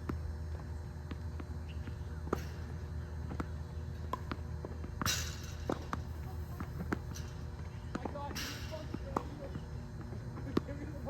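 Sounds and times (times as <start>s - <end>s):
steady low hum: 0.0s - 11.0s
tennis balls struck and bouncing: 0.0s - 11.0s.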